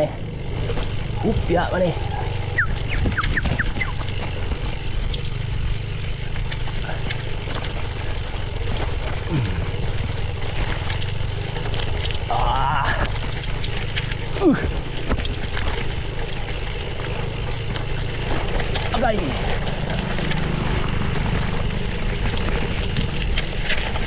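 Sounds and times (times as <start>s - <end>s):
bike tyres rumbling on road: 0.0s - 24.0s.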